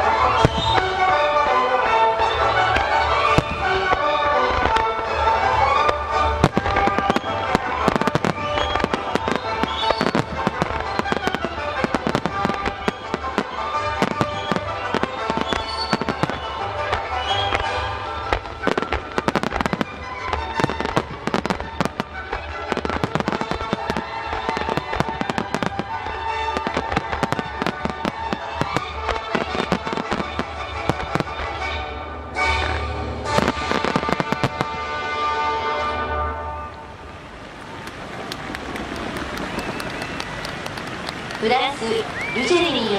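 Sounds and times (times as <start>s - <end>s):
fireworks shells bursting: 0.0s - 31.8s, 32.4s - 35.4s, 36.7s - 42.9s
music playing: 0.0s - 37.0s.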